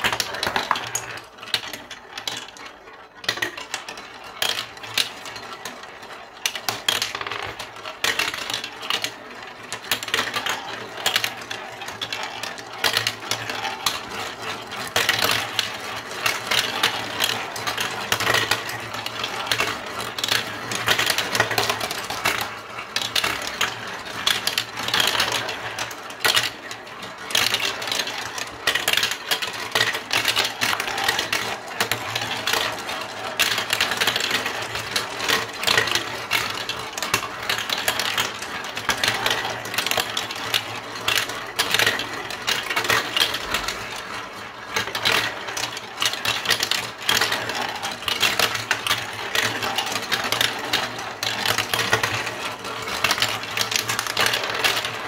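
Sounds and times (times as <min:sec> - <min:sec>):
marbles rattling down plastic chutes: 0:00.0 - 0:55.0.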